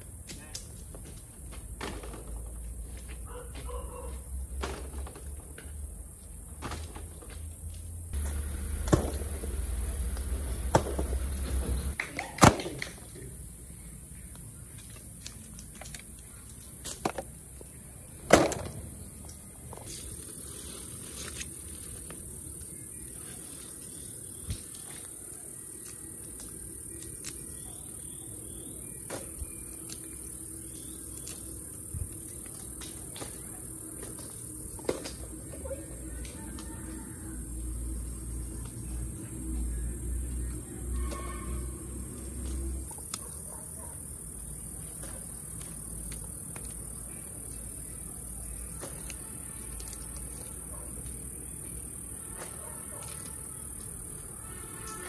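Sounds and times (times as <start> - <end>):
insects droning: 0.0 - 12.0, 12.8 - 55.0.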